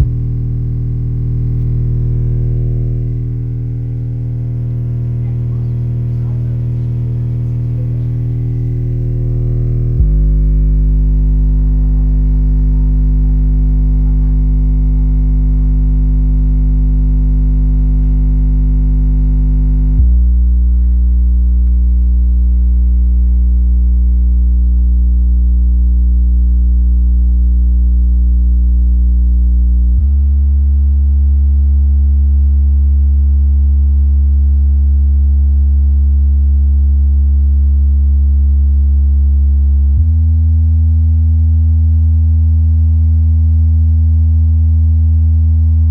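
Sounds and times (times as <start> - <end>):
subwoofer bass test tones: 0.0 - 45.9.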